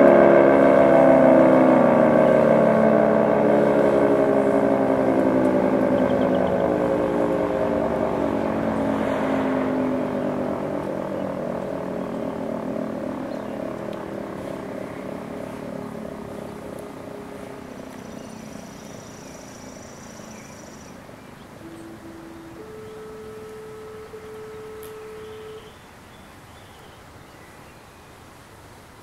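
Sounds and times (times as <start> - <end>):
three-tone siren winding down: 0.0 - 26.0.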